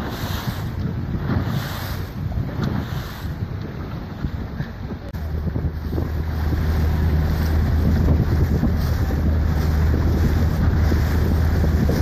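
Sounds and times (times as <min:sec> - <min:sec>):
motorboat engine humming: 0:00.0 - 0:12.0
water rushing: 0:00.0 - 0:12.0
wind buffeting microphone: 0:00.0 - 0:12.0.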